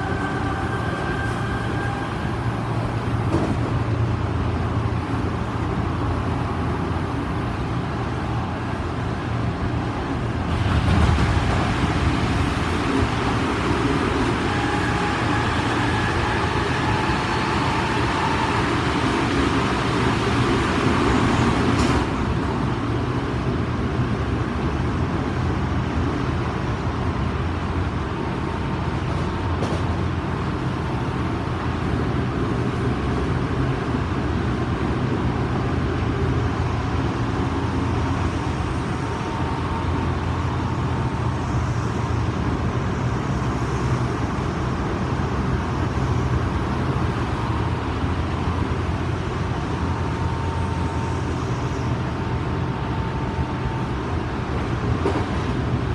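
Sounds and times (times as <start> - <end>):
train rolling rumble: 0.0 - 55.9.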